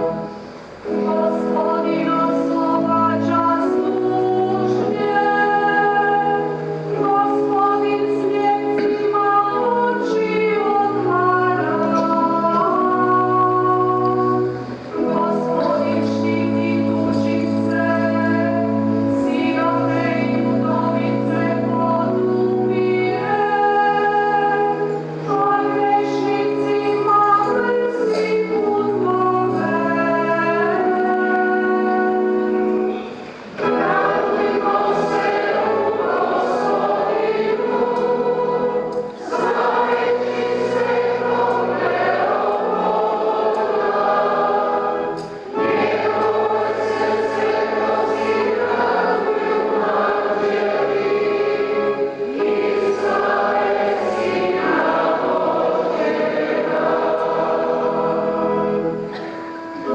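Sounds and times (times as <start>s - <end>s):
choir singing a hymn: 0.0s - 59.9s
organ chords: 0.0s - 59.9s.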